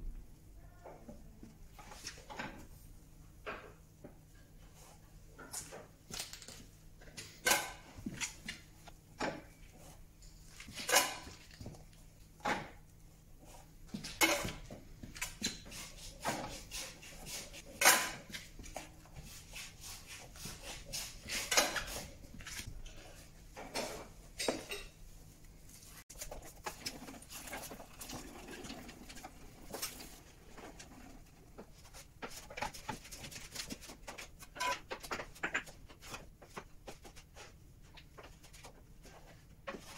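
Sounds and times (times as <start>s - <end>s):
rustling and handling noise: 1.2s - 39.9s.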